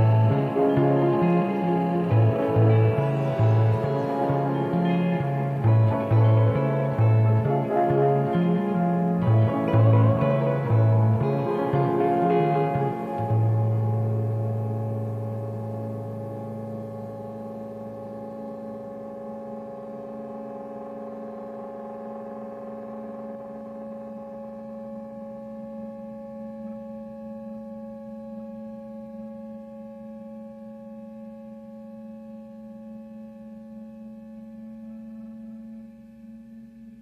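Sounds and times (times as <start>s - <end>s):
ambient drone music: 0.0s - 37.0s.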